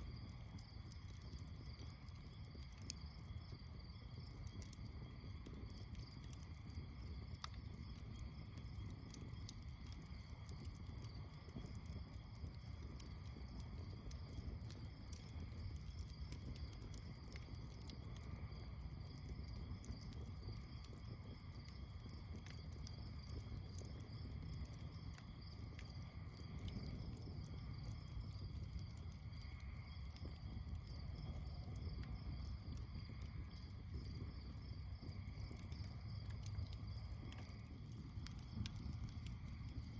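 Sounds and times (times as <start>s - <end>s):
campfire crackling and popping: 0.0s - 39.9s
night insects chirring: 0.0s - 39.9s.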